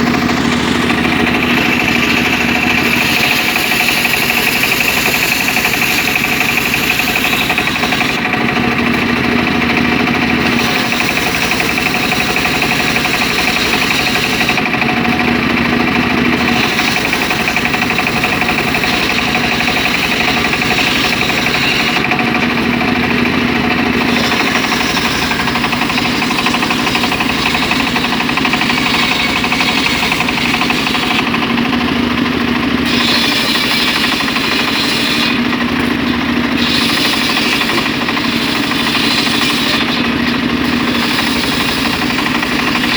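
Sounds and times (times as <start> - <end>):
circular saw cutting timber: 0.0 - 42.9
engine drone: 0.0 - 42.9.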